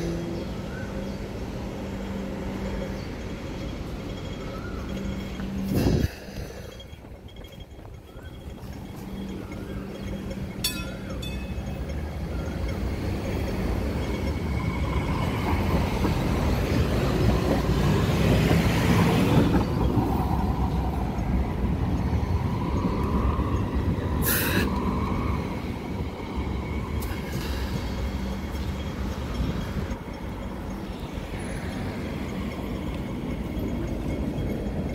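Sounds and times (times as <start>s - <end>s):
train running along track: 0.0s - 34.9s.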